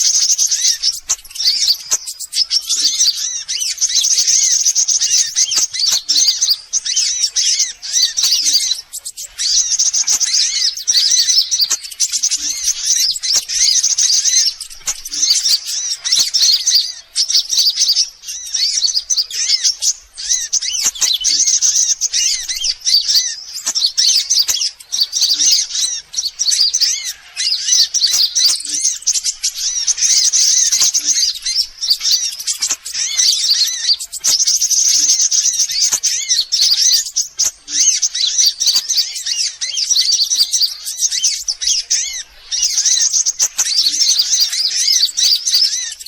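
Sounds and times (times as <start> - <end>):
high-pitched bird chirping: 0.0 - 46.0.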